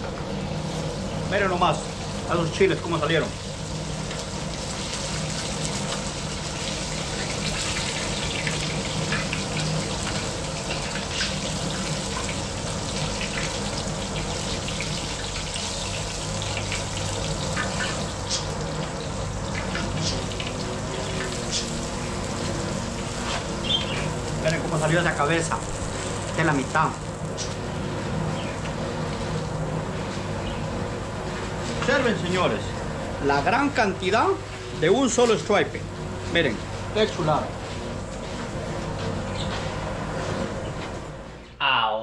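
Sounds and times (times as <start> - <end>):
fish frying in hot oil: 0.6 - 36.2.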